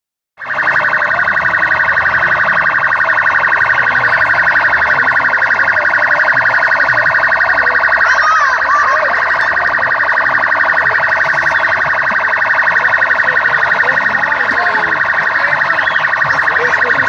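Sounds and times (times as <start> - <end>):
police siren pulsing high tone: 0.4 - 17.0
wavering siren tone: 0.4 - 17.0.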